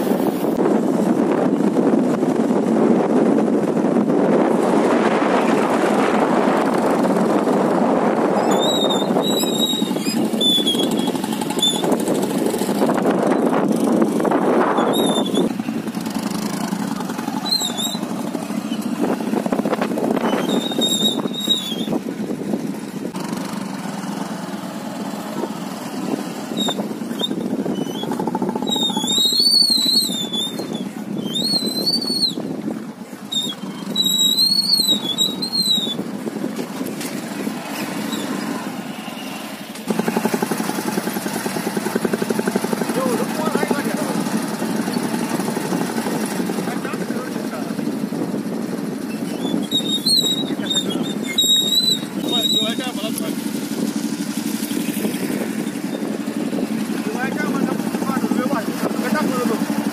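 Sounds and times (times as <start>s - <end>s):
rushing outdoor noise: 0.0s - 59.9s.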